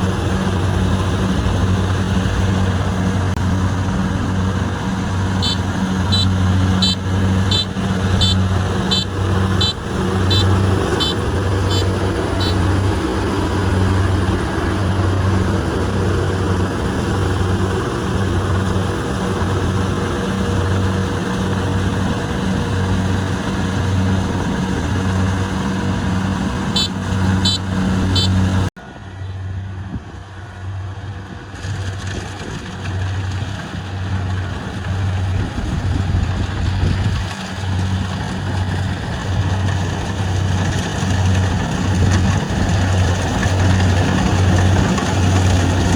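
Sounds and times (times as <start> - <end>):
diesel engine droning: 0.0 - 45.9.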